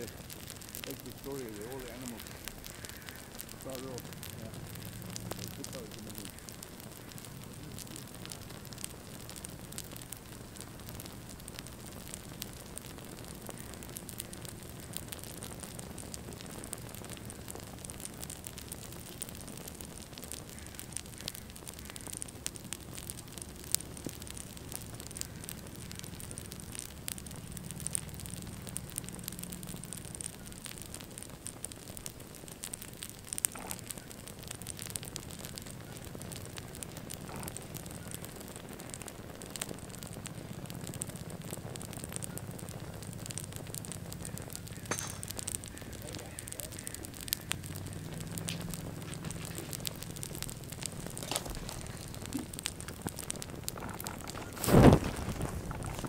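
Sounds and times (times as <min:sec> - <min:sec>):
flames crackling: 0:00.0 - 0:56.0
low rush of fire: 0:00.0 - 0:56.0
sharp pops of fire: 0:00.0 - 0:56.0.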